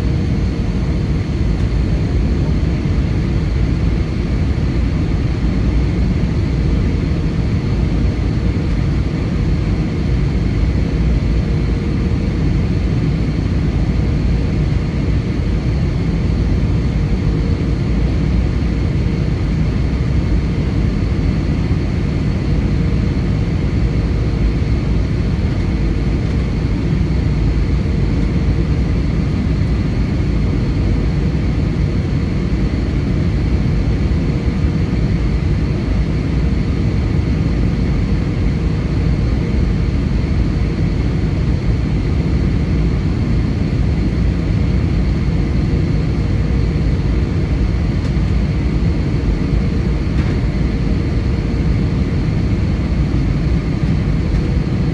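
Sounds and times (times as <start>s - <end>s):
airliner cabin engine and air rush: 0.0s - 54.9s.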